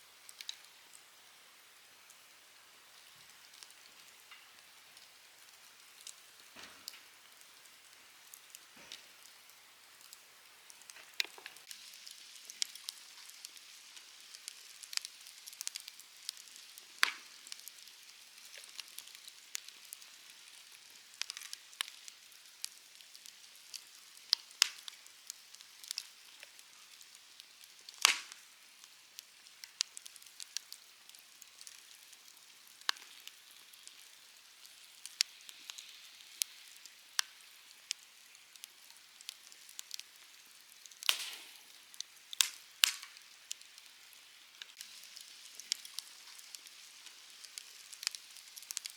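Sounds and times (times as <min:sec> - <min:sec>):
campfire crackling and popping: 0:00.1 - 0:48.9.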